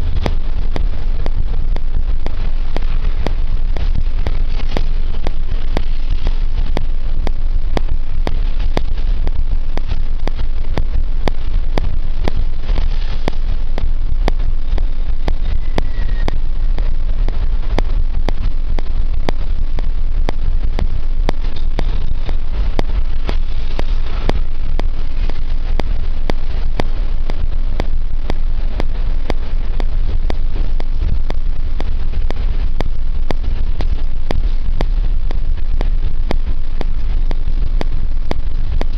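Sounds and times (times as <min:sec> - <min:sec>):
regular clicks: 0:00.0 - 0:38.9
vehicle engine and road noise: 0:00.0 - 0:38.9.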